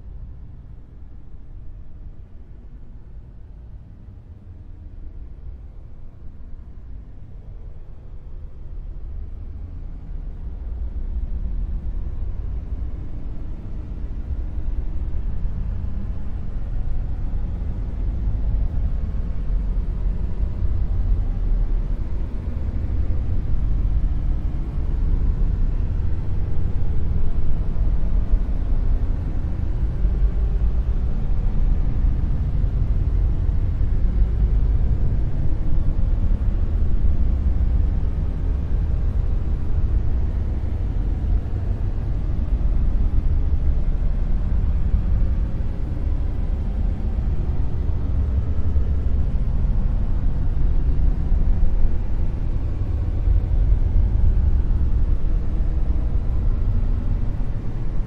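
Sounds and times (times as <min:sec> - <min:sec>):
deep rumbling noise: 0:07.3 - 0:58.0.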